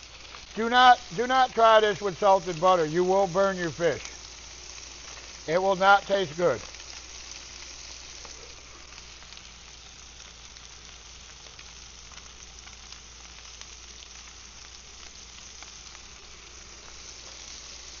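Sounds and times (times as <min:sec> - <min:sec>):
fish sizzling in butter on grill: 0:00.0 - 0:18.0.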